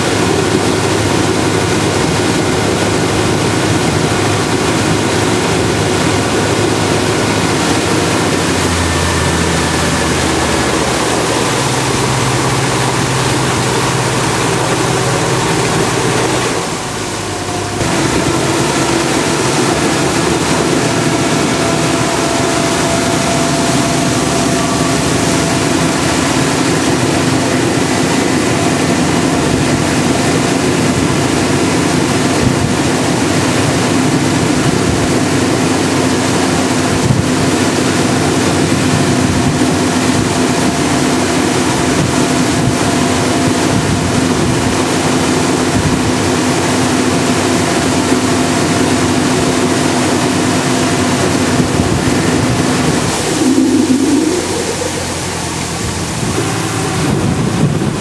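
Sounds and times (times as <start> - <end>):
boat engine running: 0.0 - 58.0
rushing water and air: 0.0 - 58.0.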